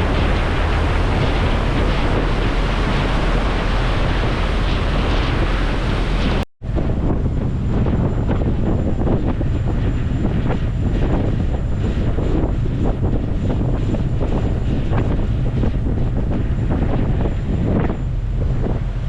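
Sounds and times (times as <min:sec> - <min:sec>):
boat engine rumble: 0:00.0 - 0:19.0
wind buffeting microphone: 0:00.0 - 0:19.0.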